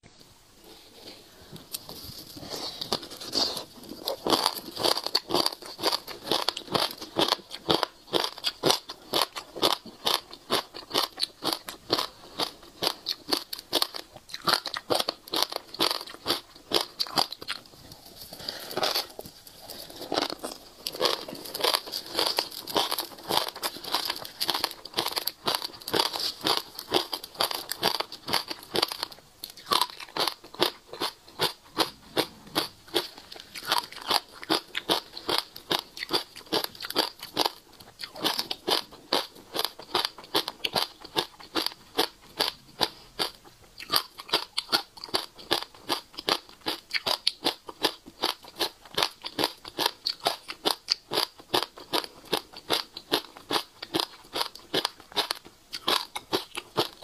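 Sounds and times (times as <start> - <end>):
fruit seeds crunching and crackling: 1.0 - 57.0.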